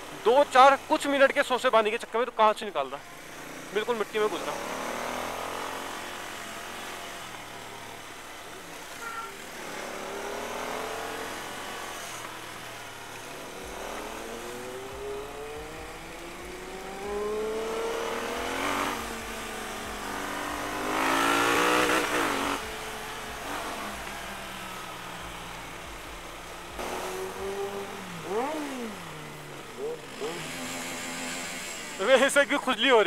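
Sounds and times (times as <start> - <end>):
motorcycle engine accelerating: 3.0 - 32.7.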